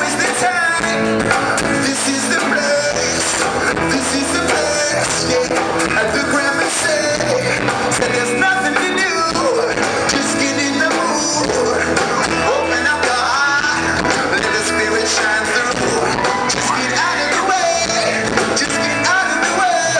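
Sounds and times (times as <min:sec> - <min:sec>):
electric bass: 0:00.0 - 0:19.9
man singing: 0:00.0 - 0:19.9.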